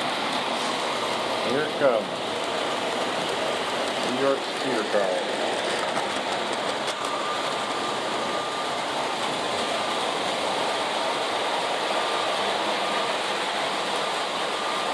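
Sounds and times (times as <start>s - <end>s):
faint steady whine: 0.0s - 14.9s
toy train motor whirring: 0.0s - 14.9s
wheels rolling on rails: 0.0s - 14.9s.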